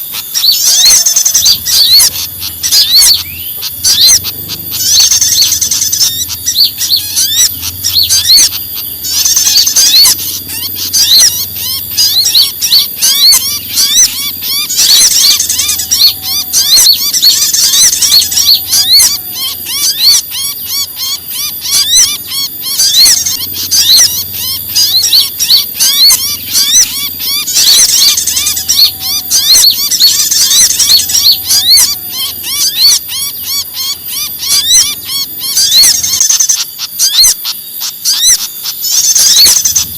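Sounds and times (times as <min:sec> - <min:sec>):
songbirds alarm chirping: 0:00.0 - 0:39.9.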